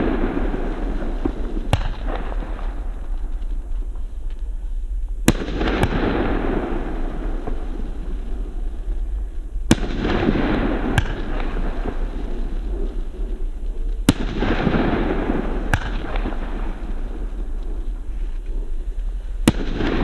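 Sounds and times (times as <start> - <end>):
fireworks bangs: 0.0 - 20.0
fireworks crackle: 0.0 - 20.0.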